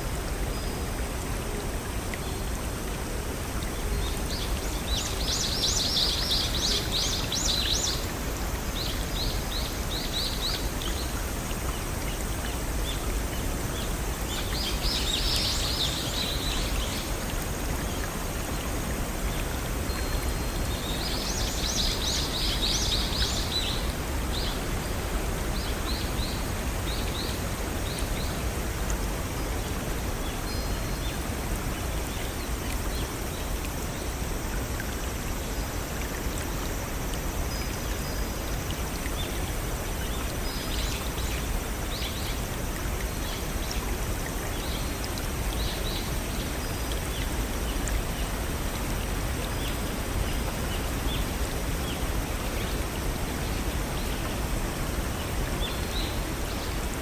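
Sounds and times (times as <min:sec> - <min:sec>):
stream and waterfall rushing: 0:00.0 - 0:57.0.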